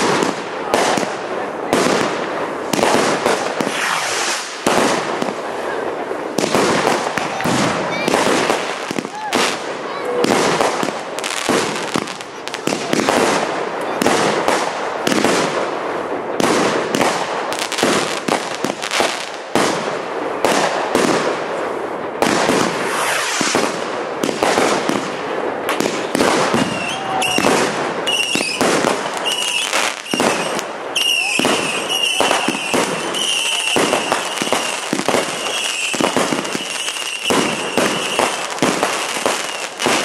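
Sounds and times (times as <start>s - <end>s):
fireworks bursting: 0.0s - 40.0s.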